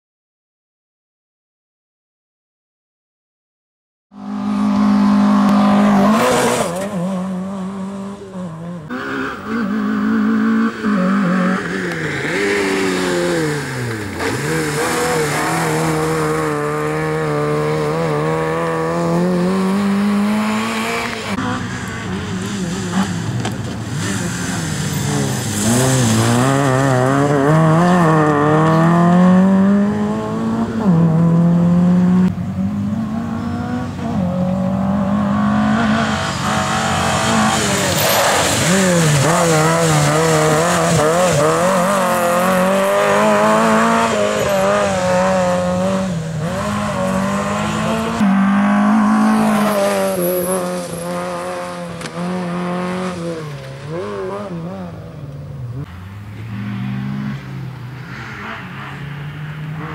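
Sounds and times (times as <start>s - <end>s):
rally car engine revving: 4.1s - 59.9s.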